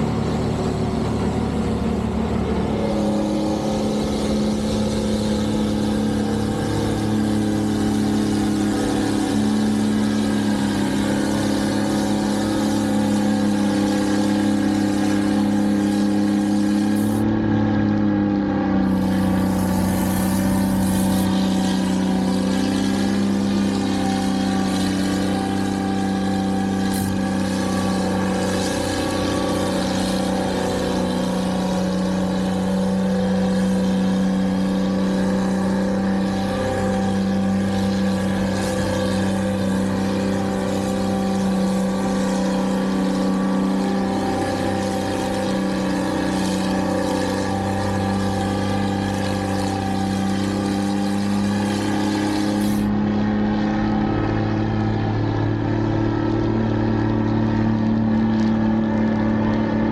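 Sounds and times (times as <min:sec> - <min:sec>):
machinery engine running: 0:00.0 - 0:59.9.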